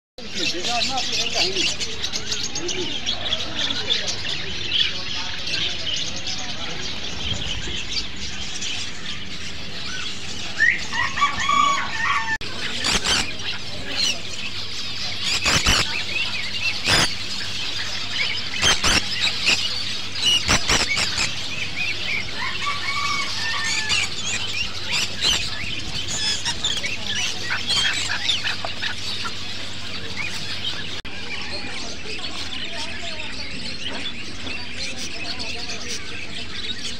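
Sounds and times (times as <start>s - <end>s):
birds chirping and chattering: 0.2s - 36.9s.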